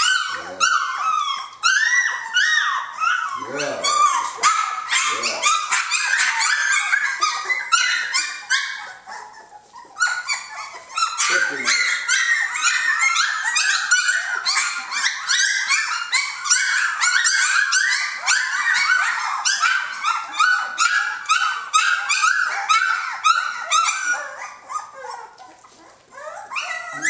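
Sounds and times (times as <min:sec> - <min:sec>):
puppies yelping and squealing: 0:00.0 - 0:27.0.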